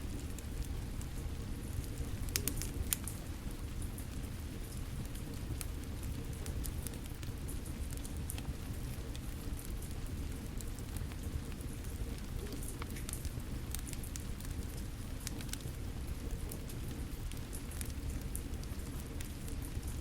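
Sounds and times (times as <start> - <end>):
rain pattering: 0.0 - 20.0
wood fire crackling and popping: 0.0 - 20.0.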